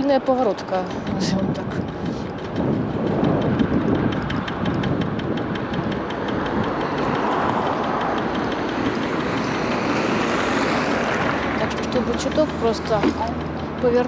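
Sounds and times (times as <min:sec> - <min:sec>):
rapid even ticking from wheel: 0:00.0 - 0:14.0
scooter tyres rumbling: 0:00.0 - 0:14.0
wind: 0:00.0 - 0:14.0.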